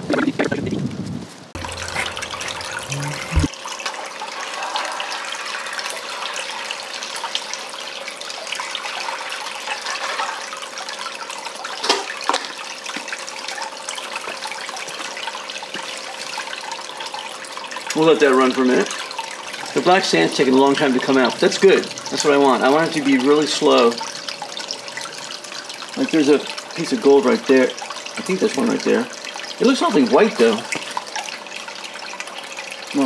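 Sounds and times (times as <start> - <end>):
pump hum: 1.6 - 33.0
water splashing into a bucket: 1.6 - 33.0.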